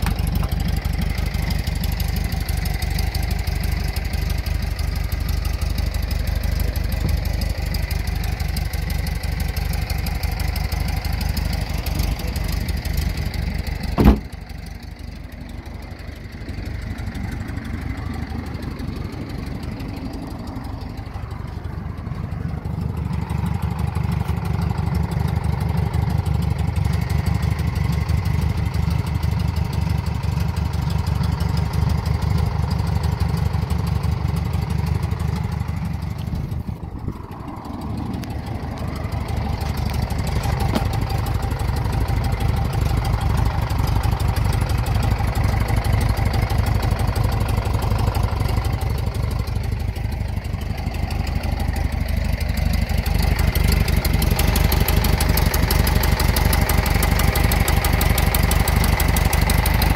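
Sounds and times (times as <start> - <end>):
air-cooled engine idling: 0.0 - 59.9.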